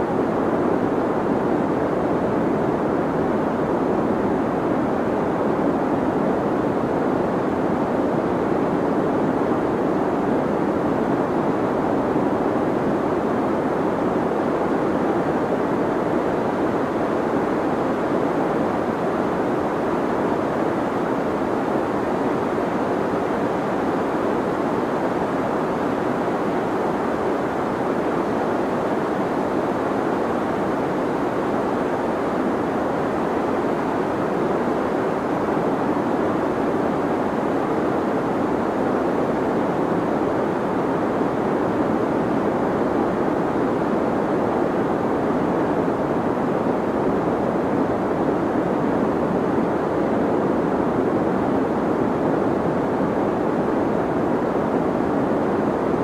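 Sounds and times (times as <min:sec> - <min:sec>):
deep white noise hiss: 0:00.0 - 0:56.0.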